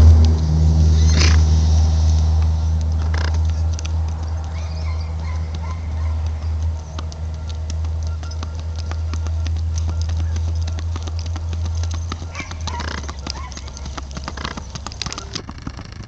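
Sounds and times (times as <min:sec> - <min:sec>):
horse hooves clopping: 0:00.0 - 0:16.0.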